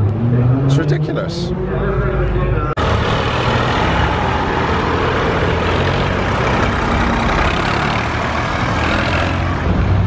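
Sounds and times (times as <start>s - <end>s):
tractor engines driving past: 0.0s - 10.0s.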